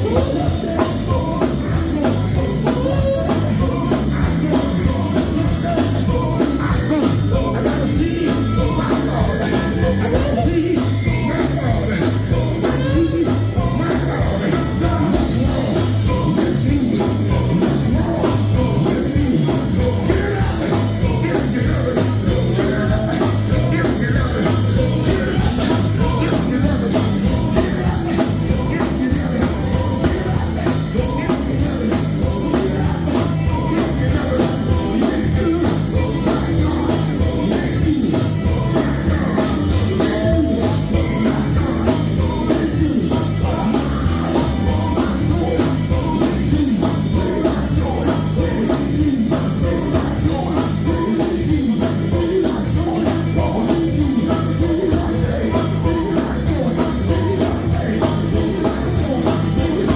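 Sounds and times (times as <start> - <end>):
gospel band with drums: 0.0 - 59.9
person singing: 0.0 - 59.9.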